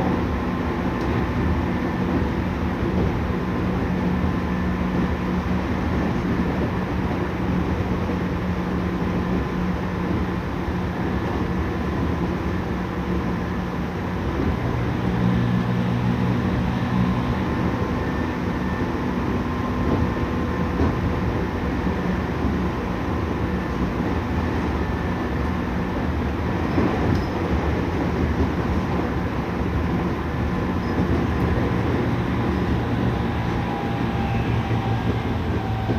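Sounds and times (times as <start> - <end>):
train wheel and rail rumble: 0.0 - 35.9.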